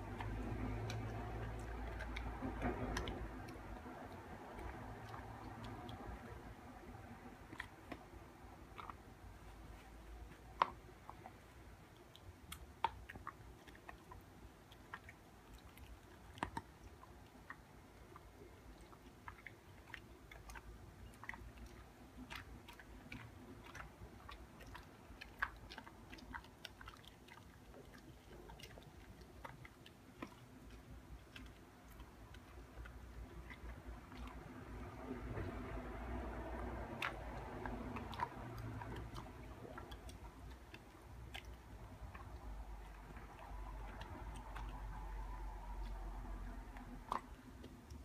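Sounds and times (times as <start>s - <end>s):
dog gnawing on a chew: 0.0s - 48.0s.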